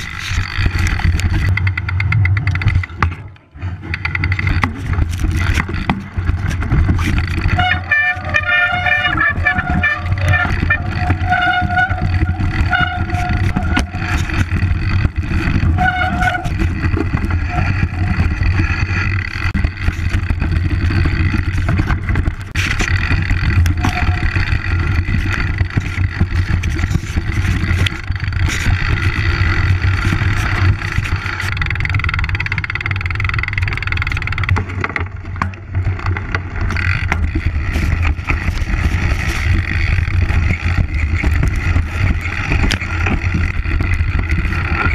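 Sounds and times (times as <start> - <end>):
bike knocking and rattling: 0.0 - 44.9.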